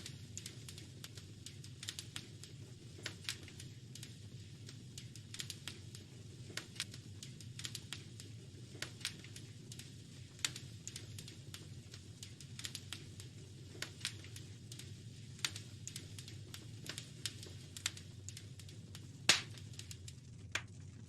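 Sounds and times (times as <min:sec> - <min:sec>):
low rumble of burning fire: 0:00.0 - 0:21.0
wood fire crackling and popping: 0:00.0 - 0:21.0.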